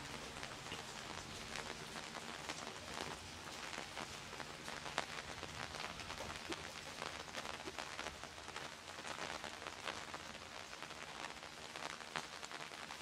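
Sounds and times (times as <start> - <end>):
light rain on wet pavement: 0.0 - 13.0.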